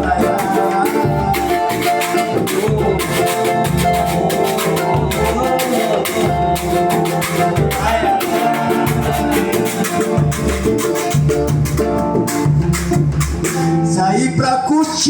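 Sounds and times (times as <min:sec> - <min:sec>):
plucked strings: 0:00.0 - 0:14.0
hand percussion: 0:00.0 - 0:14.2.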